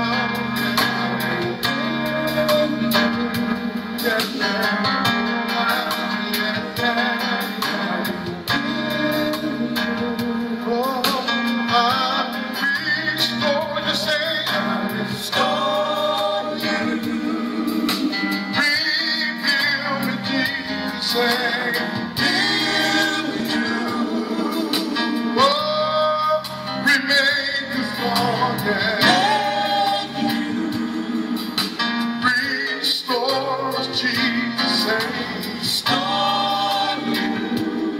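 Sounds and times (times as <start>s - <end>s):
band playing: 0.0s - 37.9s
people singing gospel: 0.0s - 37.9s.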